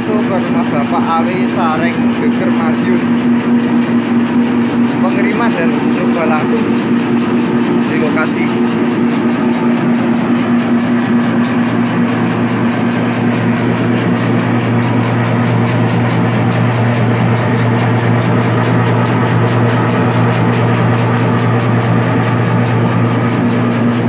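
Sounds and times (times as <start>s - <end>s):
electric motor humming: 0.0s - 24.0s
fast mechanical ticking: 0.0s - 24.0s.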